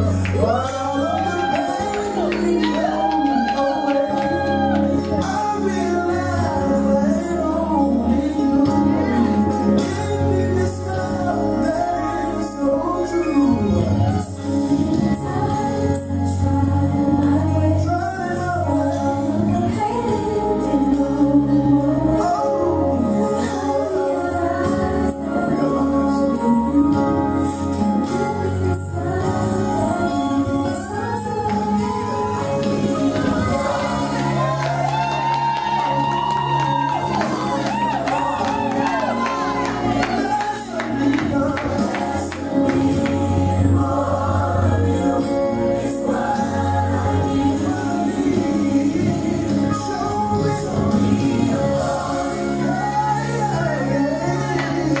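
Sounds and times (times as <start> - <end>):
gospel choir singing: 0.0 - 55.0
low musical accompaniment: 0.0 - 55.0
percussion: 0.0 - 55.0.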